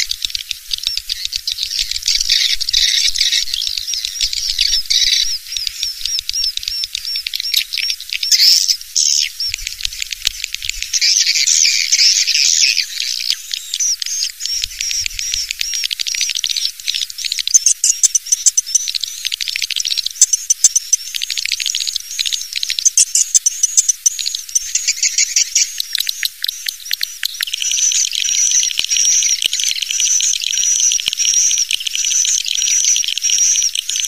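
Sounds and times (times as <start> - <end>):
swiftlet chirps and twitters: 0.0 - 34.0.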